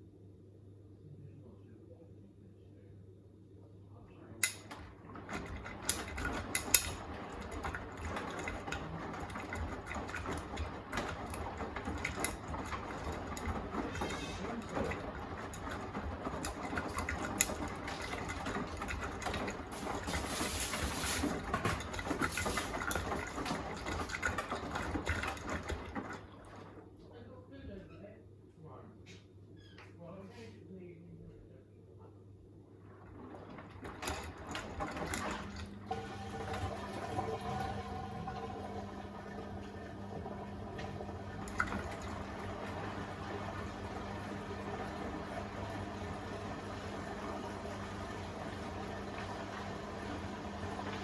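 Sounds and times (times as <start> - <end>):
washing machine drum tumbling: 4.4 - 27.0, 32.6 - 51.0.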